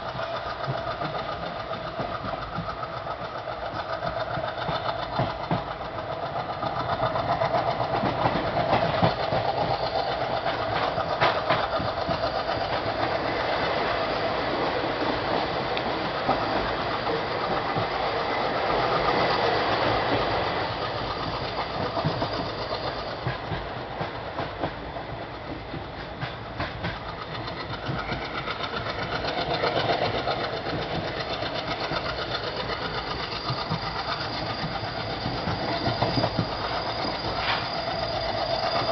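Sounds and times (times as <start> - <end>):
diesel locomotive engine chugging: 0.0 - 38.9
train wheels clattering: 0.0 - 38.9.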